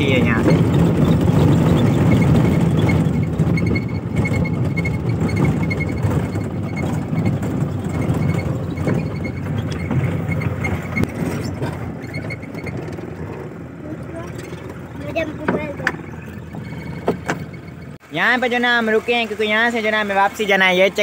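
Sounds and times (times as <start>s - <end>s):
car engine running: 0.0s - 21.0s
tyres rumbling over dirt: 0.0s - 21.0s.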